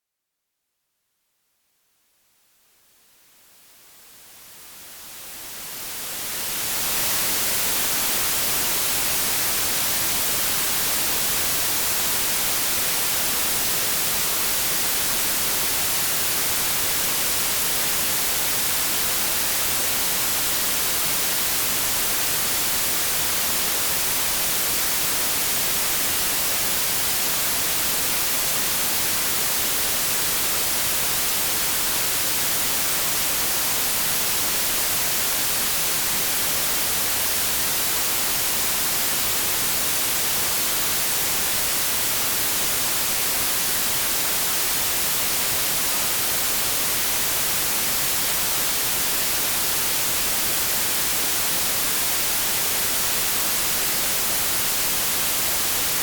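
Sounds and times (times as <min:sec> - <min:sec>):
white noise hiss: 0:01.9 - 0:56.0.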